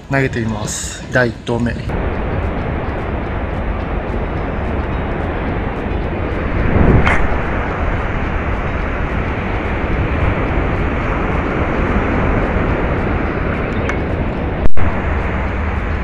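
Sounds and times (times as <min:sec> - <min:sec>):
wind on microphone: 0:00.0 - 0:16.0
breaking surf: 0:01.9 - 0:16.0.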